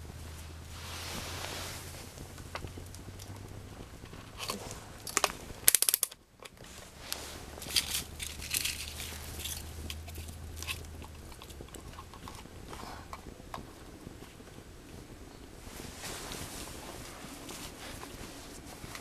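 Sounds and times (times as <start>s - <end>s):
faint crackles: 0.0s - 19.0s
low steady hum: 0.0s - 19.0s.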